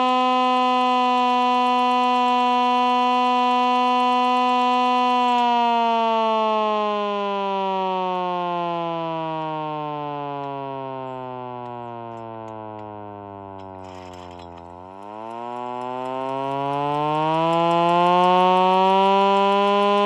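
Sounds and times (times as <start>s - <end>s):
hand-crank siren wailing: 0.0s - 20.0s.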